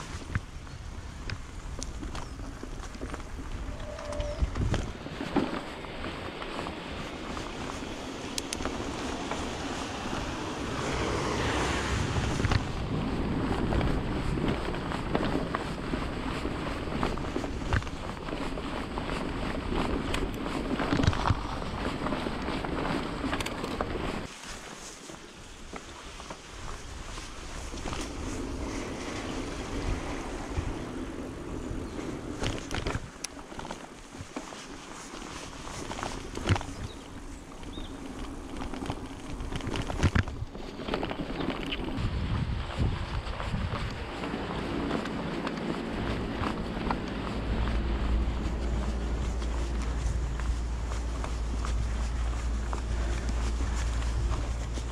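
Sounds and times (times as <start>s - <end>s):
wind on microphone: 0.0s - 24.3s, 25.1s - 54.9s
bike tyres on dirt trail: 0.0s - 54.9s.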